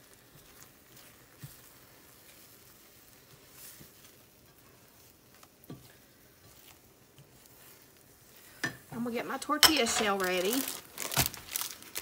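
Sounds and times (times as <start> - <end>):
eggs sizzling in a skillet: 0.0 - 12.0.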